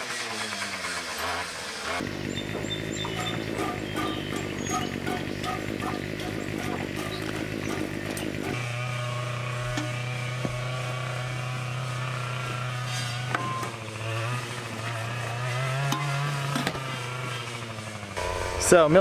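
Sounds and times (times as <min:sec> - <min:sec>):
brush cutter engine running: 0:00.0 - 0:19.0.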